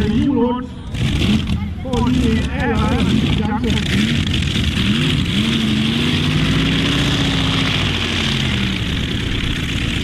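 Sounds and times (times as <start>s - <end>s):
tractor engine at full throttle: 0.0s - 10.0s.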